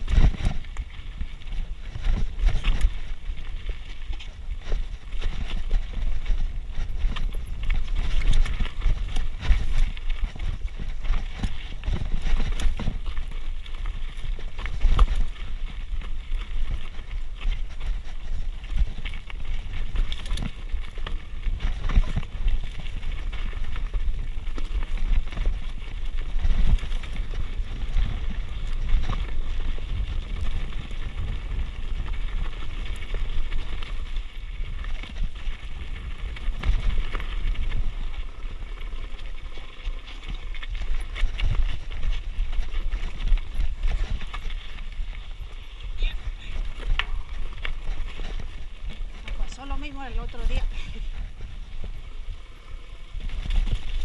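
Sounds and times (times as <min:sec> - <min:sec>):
bike rattling over bumps: 0:00.0 - 0:54.0
bike tyres crunching over gravel: 0:00.0 - 0:54.0.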